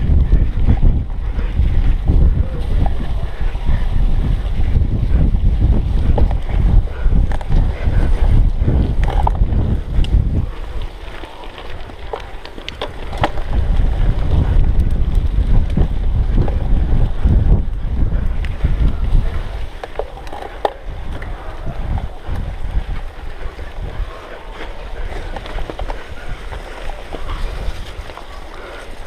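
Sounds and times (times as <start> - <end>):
tyres rumbling over dirt: 0.0 - 29.0
wind buffeting microphone: 0.0 - 29.0.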